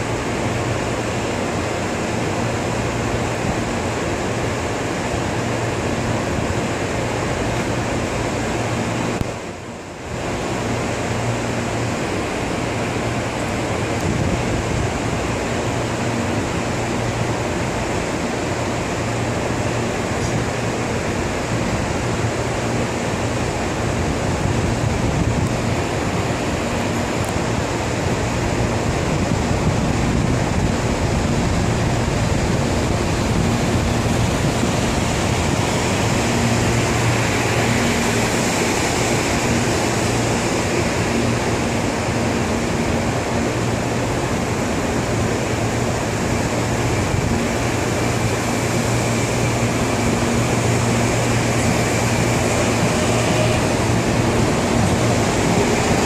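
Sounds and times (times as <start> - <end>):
train wheels rolling on rail: 0.0 - 56.0.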